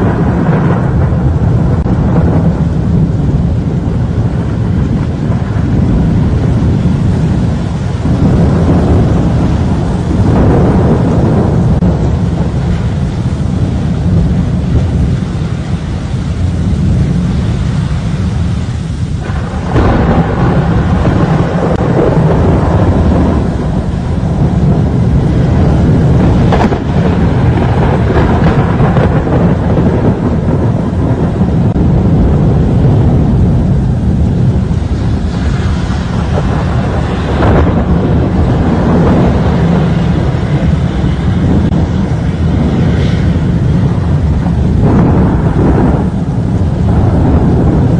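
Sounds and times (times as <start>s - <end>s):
rain: 0.0s - 47.9s
strong wind: 0.0s - 47.9s.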